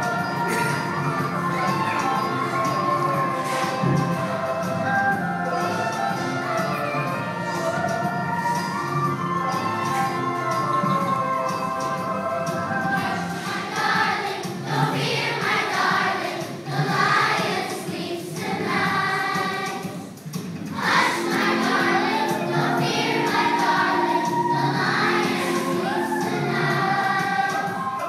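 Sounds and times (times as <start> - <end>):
children singing: 0.0 - 28.0
instrumental accompaniment: 0.0 - 28.0.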